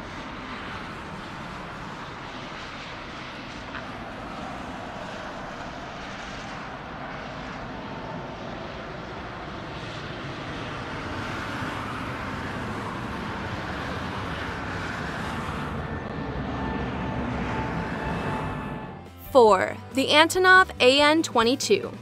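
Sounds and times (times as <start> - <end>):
airliner engines running: 0.0 - 22.0.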